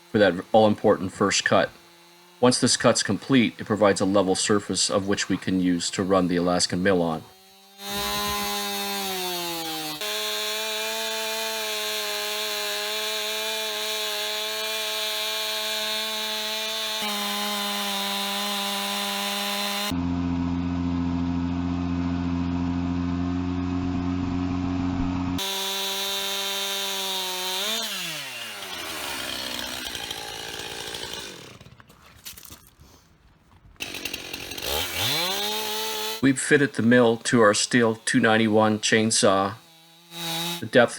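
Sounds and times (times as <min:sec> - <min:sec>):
chainsaw cutting a log: 0:00.0 - 0:32.6, 0:33.8 - 0:40.9.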